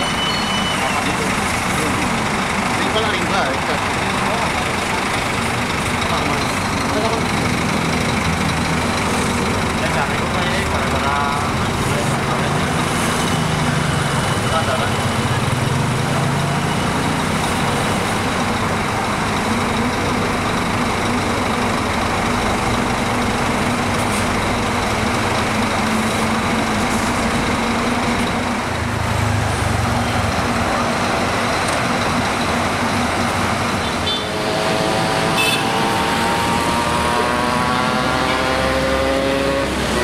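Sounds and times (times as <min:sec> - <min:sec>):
bus diesel engine droning: 0:00.0 - 0:40.0
street traffic: 0:00.0 - 0:40.0
vehicle accelerating whine: 0:00.0 - 0:40.0.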